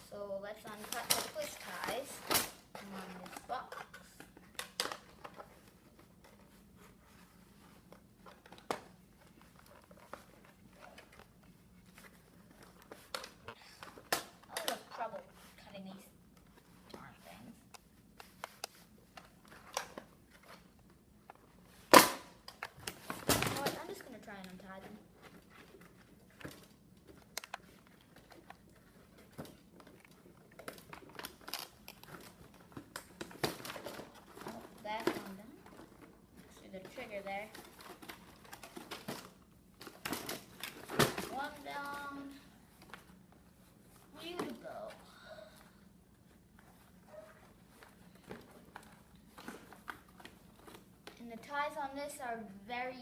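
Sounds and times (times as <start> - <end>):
rustling cardboard and plastic: 0.5 - 52.0.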